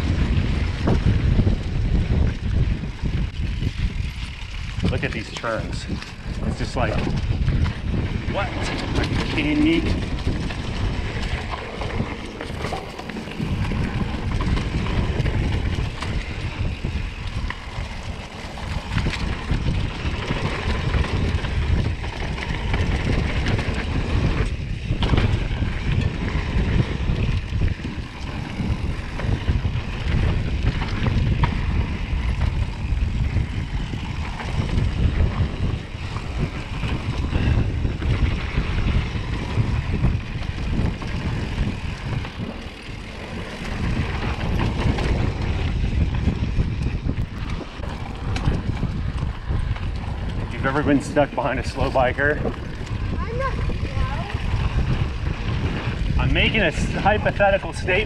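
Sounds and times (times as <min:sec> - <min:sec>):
bike rattling over bumps: 0:00.0 - 0:58.0
knobby tyres rolling on dirt: 0:00.0 - 0:58.0
wind buffeting microphone: 0:00.0 - 0:58.0.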